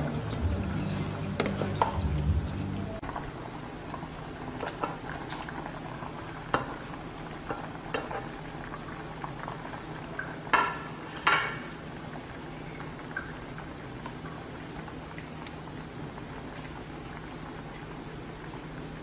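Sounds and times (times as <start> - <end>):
soup bubbling in a pot: 0.0 - 19.0.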